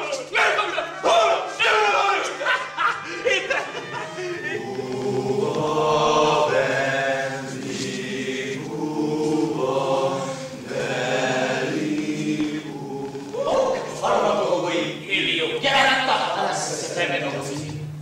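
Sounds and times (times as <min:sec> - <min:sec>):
group of voices chanting: 0:00.0 - 0:17.7.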